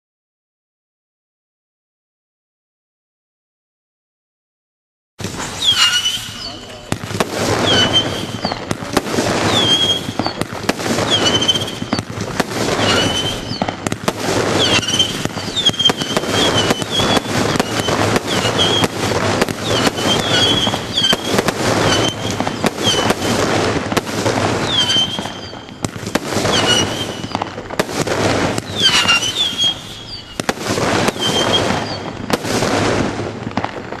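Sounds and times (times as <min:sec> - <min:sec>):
fireworks bangs: 0:05.2 - 0:34.0
fireworks whistling: 0:05.2 - 0:34.0.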